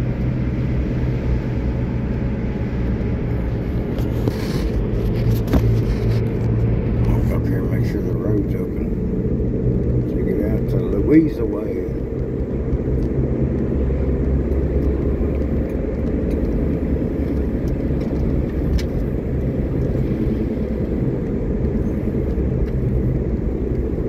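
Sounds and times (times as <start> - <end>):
car engine and tyres droning: 0.0 - 24.0.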